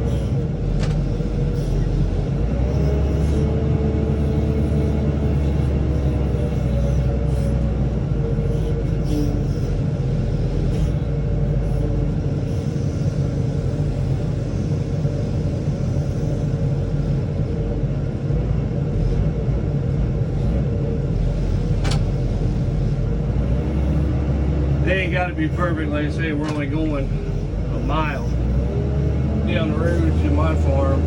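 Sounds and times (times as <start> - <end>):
diesel engine rumbling: 0.0 - 31.0.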